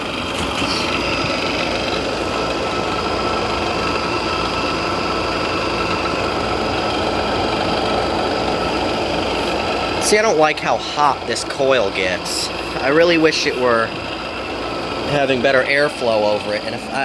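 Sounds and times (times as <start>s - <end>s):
air conditioner humming: 0.0s - 17.0s
thin steady whine: 0.0s - 17.0s.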